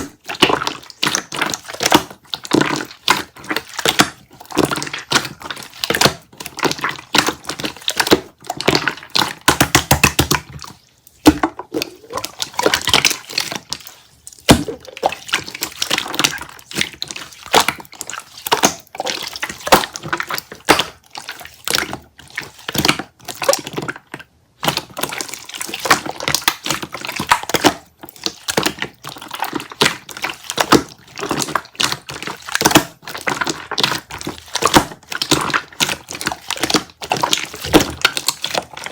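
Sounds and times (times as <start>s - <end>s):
hands squishing wet slime: 0.0s - 38.9s.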